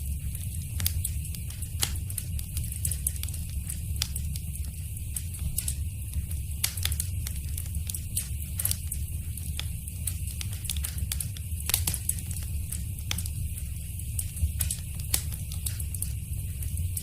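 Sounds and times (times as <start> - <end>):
wood fire crackling in fireplace: 0.0 - 17.0.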